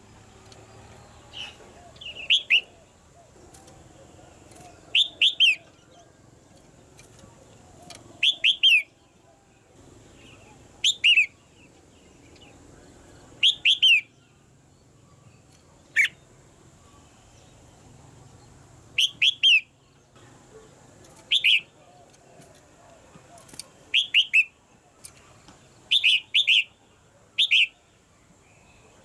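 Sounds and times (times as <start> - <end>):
bird chirping downward-sliding calls: 0.0 - 9.0, 10.0 - 27.9.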